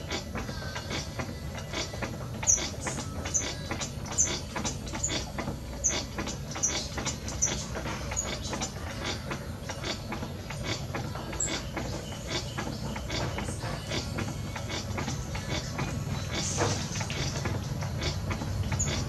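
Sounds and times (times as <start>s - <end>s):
potter's wheel rumbling: 0.0s - 19.0s.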